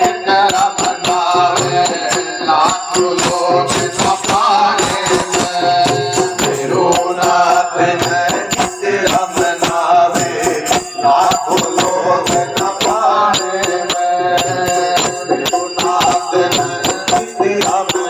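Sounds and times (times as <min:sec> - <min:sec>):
devotional chant-like singing: 0:00.0 - 0:18.0
hand percussion: 0:00.0 - 0:18.0
jingling rattles or cymbals: 0:00.0 - 0:18.0.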